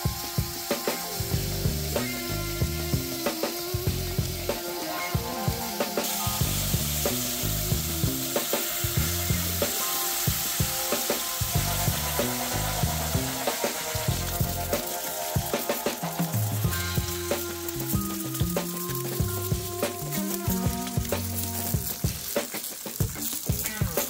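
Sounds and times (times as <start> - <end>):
background music with bass: 0.0 - 24.0
bacon and sausages sizzling: 0.0 - 24.0.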